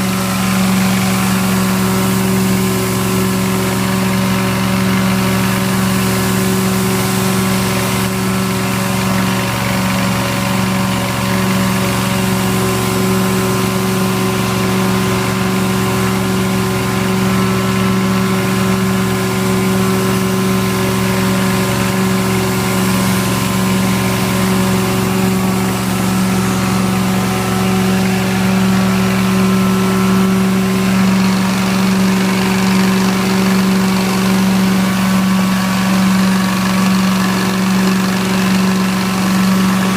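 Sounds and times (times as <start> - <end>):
carpet extractor droning and hissing: 0.0 - 39.9.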